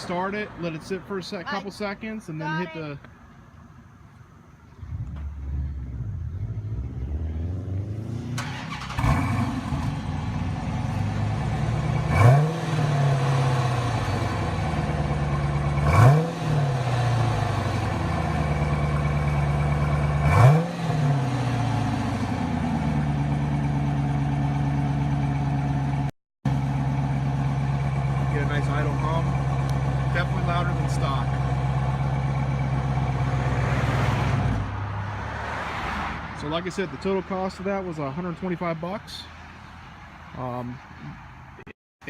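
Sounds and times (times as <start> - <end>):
car engine idling and revving: 0.0 - 41.7.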